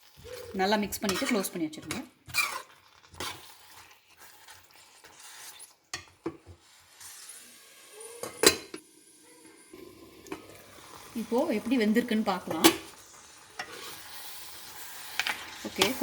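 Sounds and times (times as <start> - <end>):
faint sizzling: 0.0 - 16.0.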